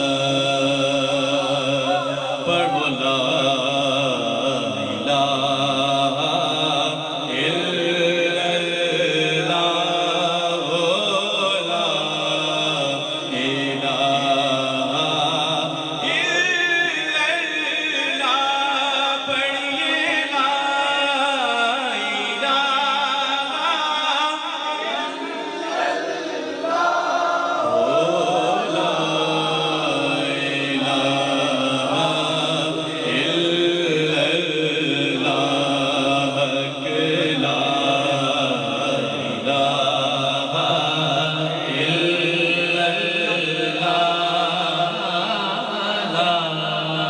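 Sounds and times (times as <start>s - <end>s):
man singing devotional chant: 0.0s - 25.9s, 27.6s - 47.0s.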